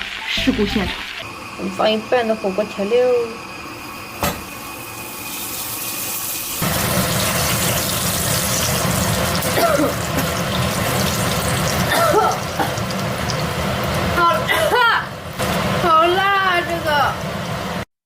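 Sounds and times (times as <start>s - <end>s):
seasoning sizzling in hot oil: 0.0s - 1.2s, 3.7s - 14.5s, 15.1s - 17.8s.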